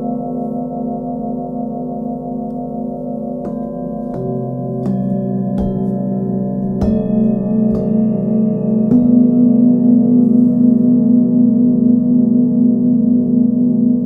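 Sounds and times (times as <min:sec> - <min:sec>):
singing bowls ringing: 0:00.0 - 0:13.6.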